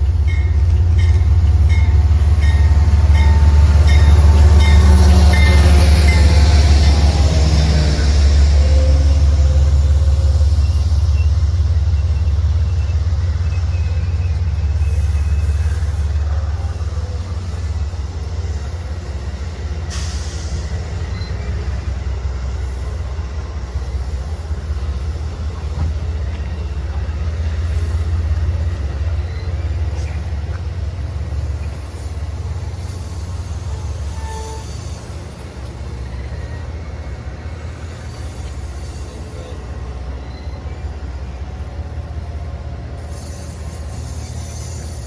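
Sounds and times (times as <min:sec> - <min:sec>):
train rolling past: 0:00.0 - 0:45.0.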